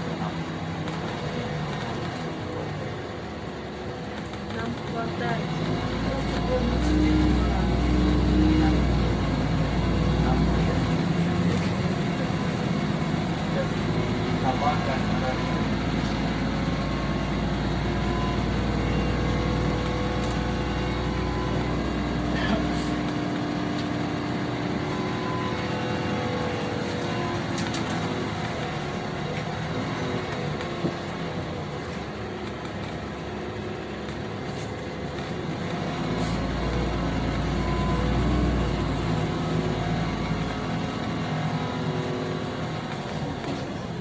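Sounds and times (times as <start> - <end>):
bus engine: 0.0 - 44.0
road noise: 0.0 - 44.0.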